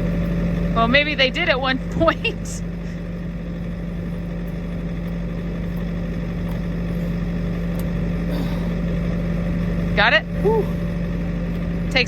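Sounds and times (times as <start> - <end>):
skid steer engine idling: 0.0 - 12.0.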